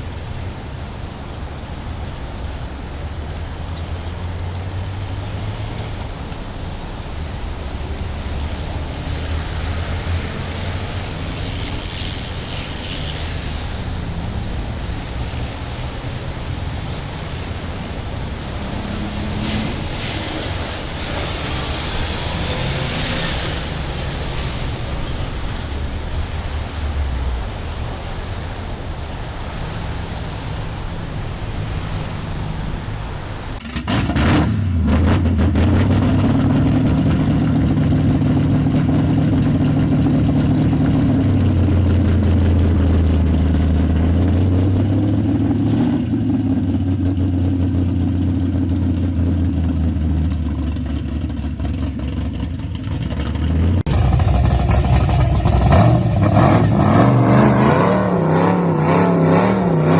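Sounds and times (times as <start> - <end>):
loud car engines running: 0.0 - 59.9.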